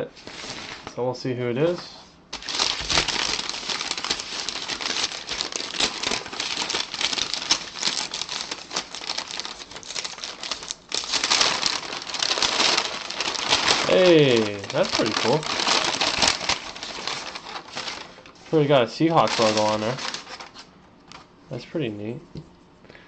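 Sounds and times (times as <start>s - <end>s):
packaging crinkling and rustling: 2.3s - 21.3s.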